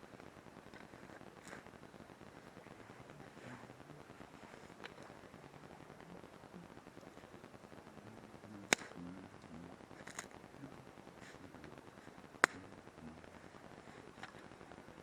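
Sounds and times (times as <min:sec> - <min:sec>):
campfire wood popping: 0:00.0 - 0:15.0.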